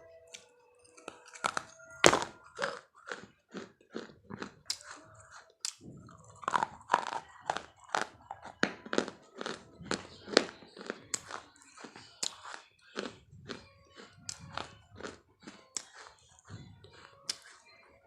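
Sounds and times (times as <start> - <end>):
close crunching sounds: 1.0 - 17.6.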